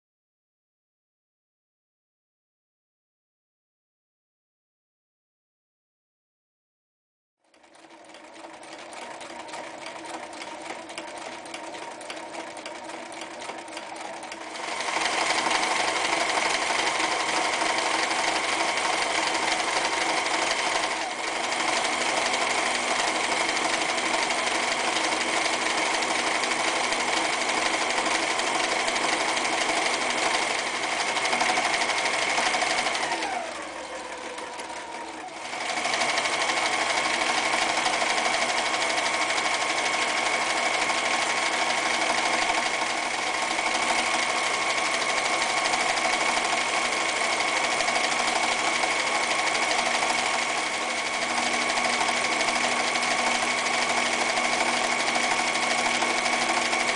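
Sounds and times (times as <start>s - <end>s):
electric sewing machine stitching: 7.4s - 56.9s.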